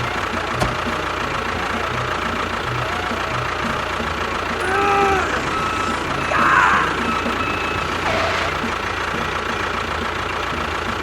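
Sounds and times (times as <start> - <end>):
small motor running: 0.0 - 11.0.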